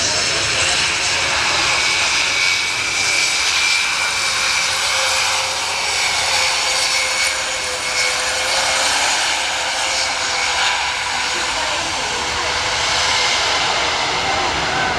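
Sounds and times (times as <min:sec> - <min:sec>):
turboprop engines with high whine: 0:00.0 - 0:14.9.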